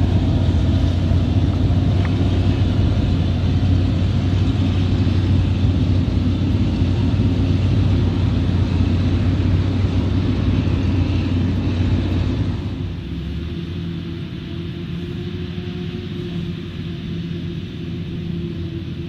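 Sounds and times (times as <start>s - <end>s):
diesel farm machinery working: 0.0s - 19.0s.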